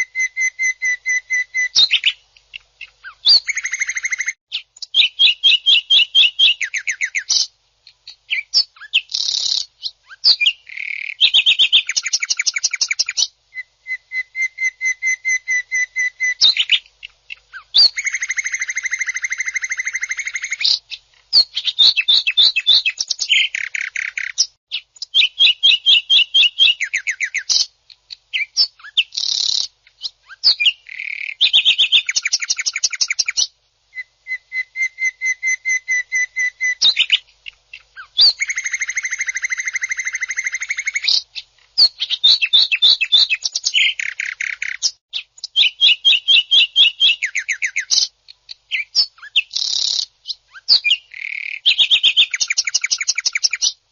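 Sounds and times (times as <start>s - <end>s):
bird singing rapid-fire notes: 0.0s - 53.8s.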